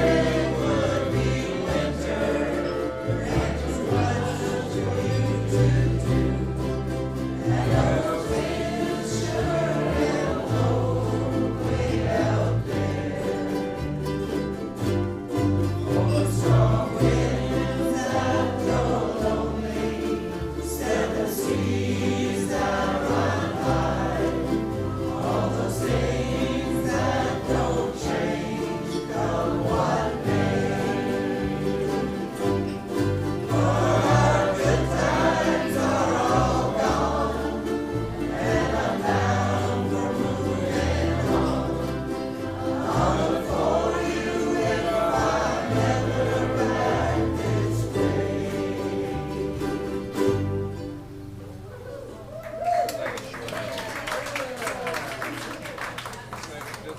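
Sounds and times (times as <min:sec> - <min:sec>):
bass line: 0:00.0 - 0:50.9
group singing folk song: 0:00.0 - 0:51.4
strummed ukuleles: 0:00.0 - 0:56.9.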